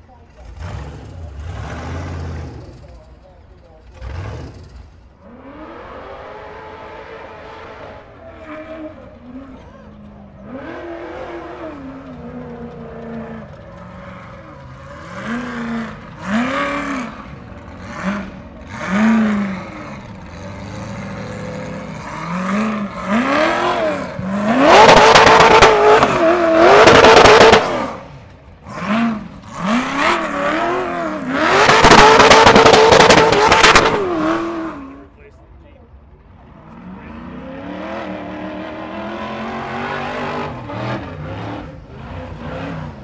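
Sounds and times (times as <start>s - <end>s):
race car engine revving: 0.2s - 35.2s, 36.2s - 43.0s.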